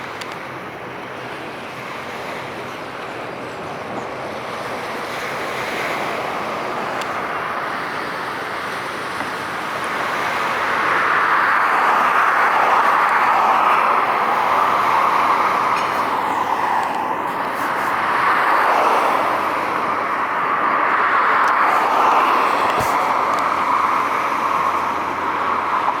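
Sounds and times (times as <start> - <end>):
road traffic rushing: 0.0 - 26.0.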